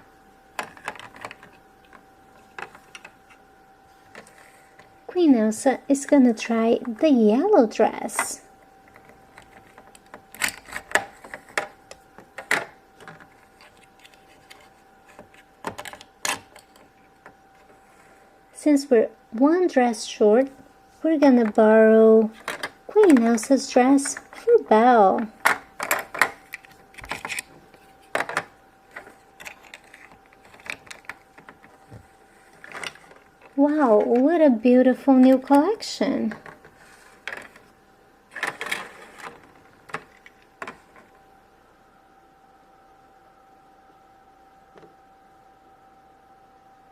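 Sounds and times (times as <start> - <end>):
faint steady tone: 0.0 - 46.9.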